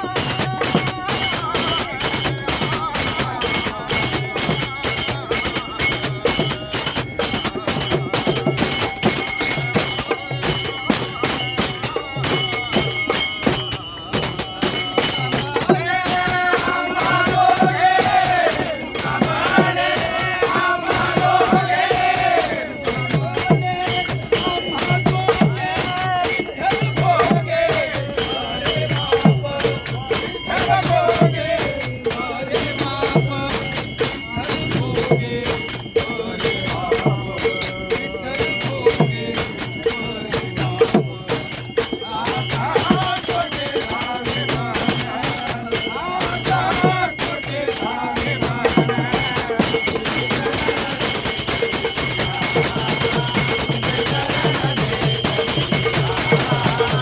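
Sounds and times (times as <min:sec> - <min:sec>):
group singing devotional song: 0:00.0 - 0:57.0
jingling hand percussion: 0:00.0 - 0:57.0.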